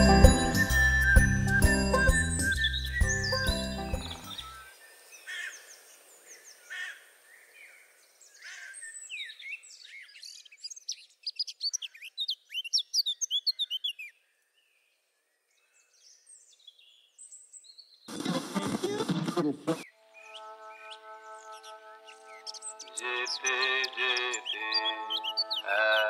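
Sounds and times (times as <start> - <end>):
small birds chirping: 0.0 - 18.6, 19.8 - 26.0.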